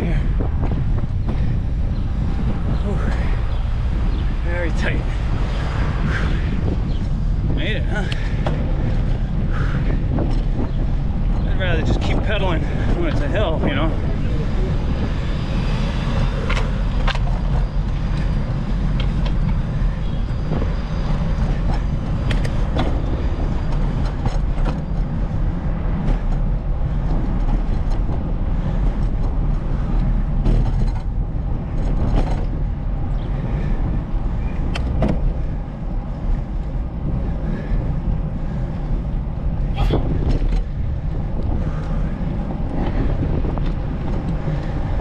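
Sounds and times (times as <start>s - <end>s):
wind and road noise rumble: 0.0s - 45.0s.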